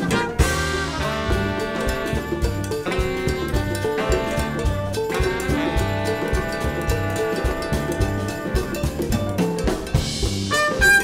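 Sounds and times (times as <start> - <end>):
horn section playing chords: 0.0 - 9.2, 10.4 - 11.0
drum beat: 0.0 - 11.0.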